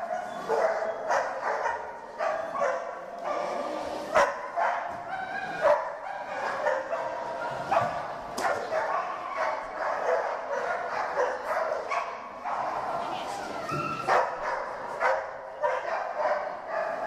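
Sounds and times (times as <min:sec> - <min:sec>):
dog barking: 0:00.0 - 0:05.0, 0:05.6 - 0:12.9, 0:14.1 - 0:17.0.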